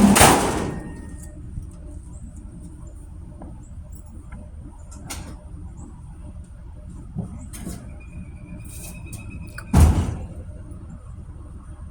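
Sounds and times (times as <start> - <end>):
engine exhaust rumble: 0.0 - 11.9.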